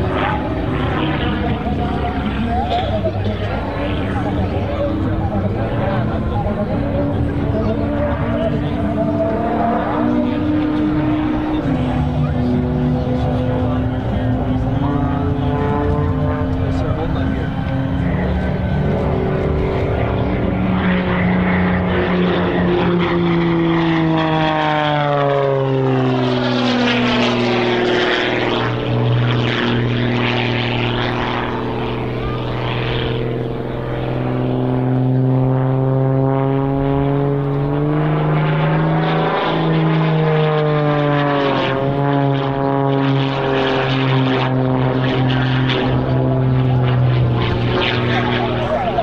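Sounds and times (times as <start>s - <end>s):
propeller plane engine: 0.0s - 49.0s.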